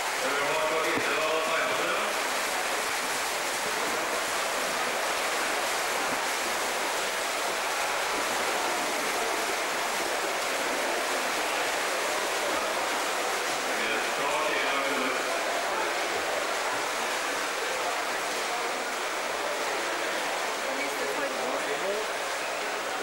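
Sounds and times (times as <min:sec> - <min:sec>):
swimmers splashing water: 0:00.0 - 0:23.0.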